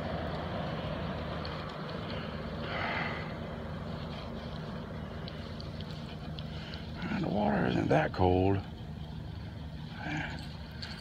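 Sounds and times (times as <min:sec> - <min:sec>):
distant vehicle engine hum: 0:00.0 - 0:11.0.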